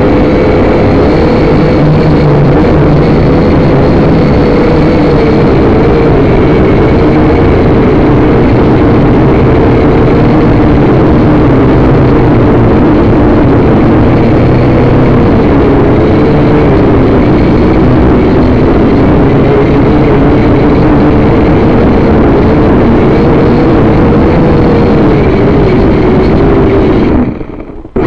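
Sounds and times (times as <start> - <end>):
drone propellers humming: 0.0 - 28.0.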